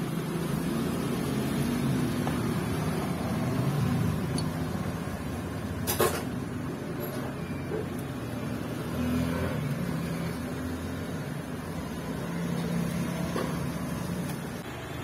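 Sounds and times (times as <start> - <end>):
workshop background rumble: 0.0 - 15.0.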